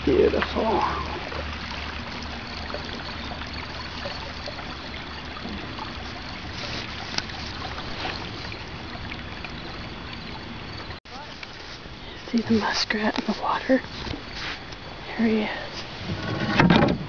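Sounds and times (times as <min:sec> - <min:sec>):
water trickling around kayak: 0:00.0 - 0:17.0.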